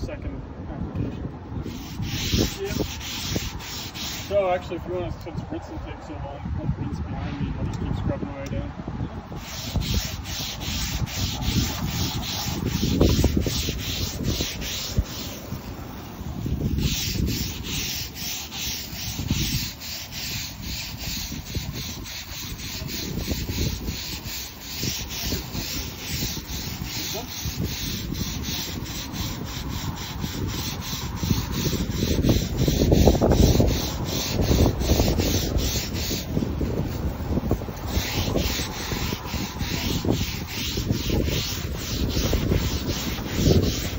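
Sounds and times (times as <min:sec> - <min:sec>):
brush scrubbing wet deck: 0:01.6 - 0:05.2, 0:09.3 - 0:43.9.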